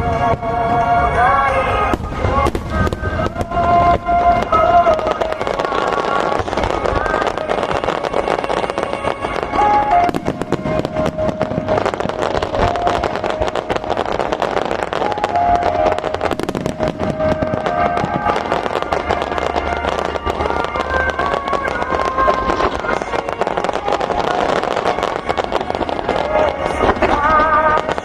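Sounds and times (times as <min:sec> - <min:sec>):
fireworks bursting and crackling: 0:00.0 - 0:28.0
melody with held notes: 0:00.0 - 0:28.0.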